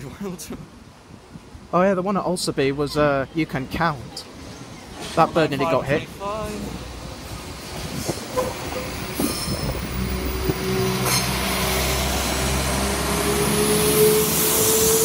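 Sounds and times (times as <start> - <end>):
train engine hum: 2.6 - 15.0.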